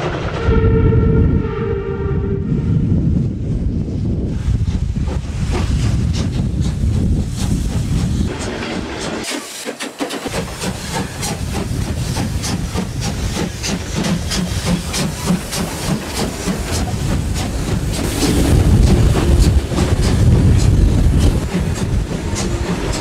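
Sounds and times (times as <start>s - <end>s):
steam locomotive chuffing: 3.5s - 23.0s
steam hissing: 4.2s - 23.0s.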